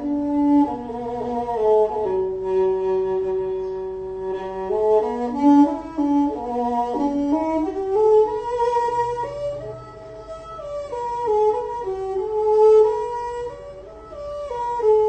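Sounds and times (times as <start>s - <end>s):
bamboo flute melody: 0.0s - 15.0s
bowed fiddles: 0.0s - 15.0s.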